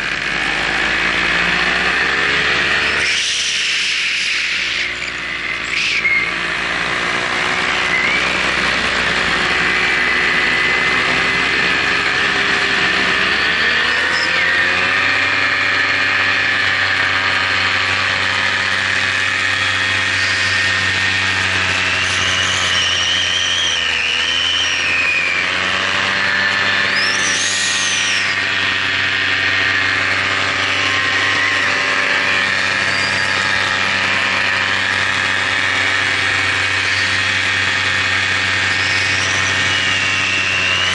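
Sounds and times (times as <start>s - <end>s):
drone motors and propellers whining: 0.0s - 40.9s.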